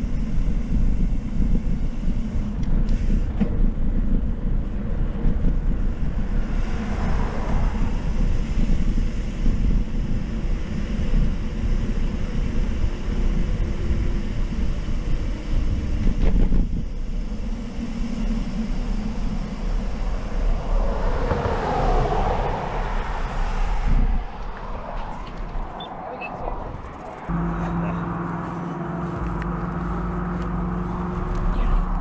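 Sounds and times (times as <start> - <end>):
wind rushing on microphone: 0.0 - 27.3
road noise: 0.0 - 32.0.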